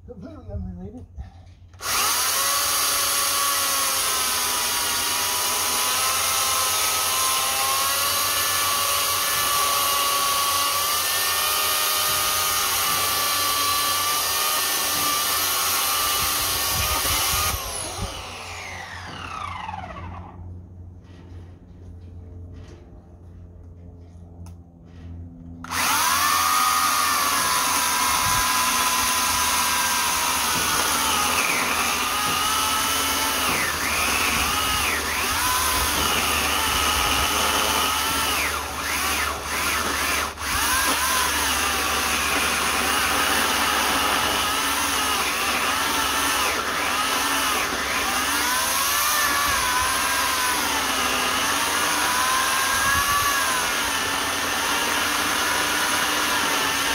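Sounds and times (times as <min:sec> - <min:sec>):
electric chainsaw cutting log: 0:01.8 - 0:20.4, 0:25.6 - 0:56.9.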